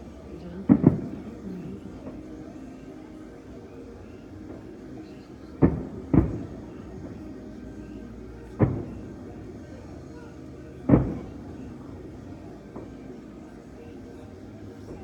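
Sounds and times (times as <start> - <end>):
fireworks bursts with echo: 0.0 - 15.0
low background murmur: 0.0 - 15.0.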